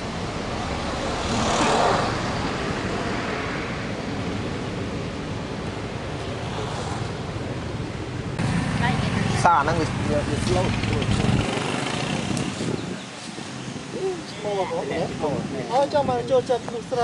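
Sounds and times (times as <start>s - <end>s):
road vehicle passing: 0.0s - 17.0s
steady traffic noise: 0.0s - 17.0s.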